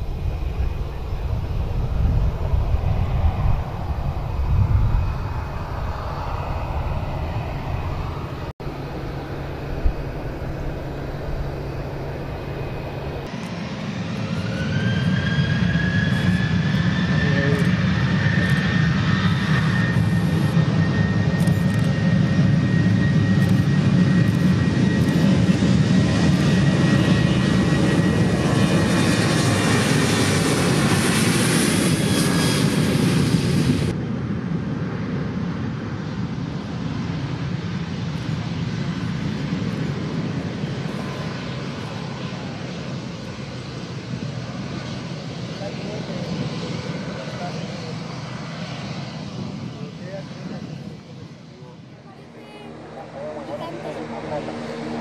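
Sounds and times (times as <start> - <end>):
jet engines rumbling with whine: 0.0 - 55.0.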